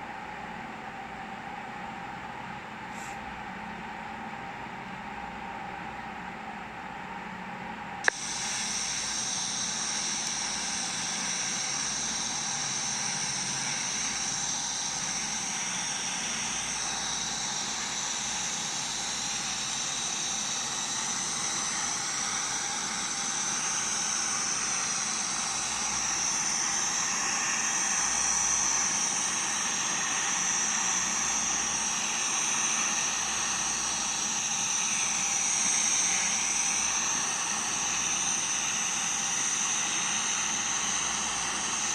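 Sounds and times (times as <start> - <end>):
welding arc hissing crackle: 8.1 - 41.9.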